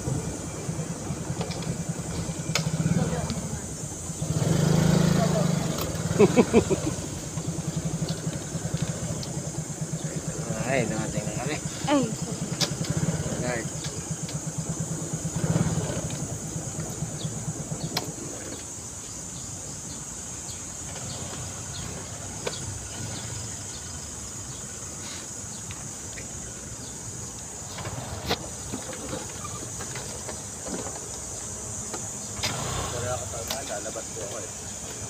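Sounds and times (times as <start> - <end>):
high insect drone: 0.0 - 35.0
motorcycle engine idling: 0.0 - 35.0.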